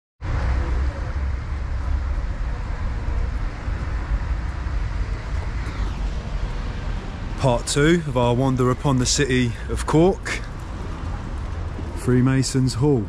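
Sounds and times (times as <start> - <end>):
city street rumble: 0.2 - 13.0.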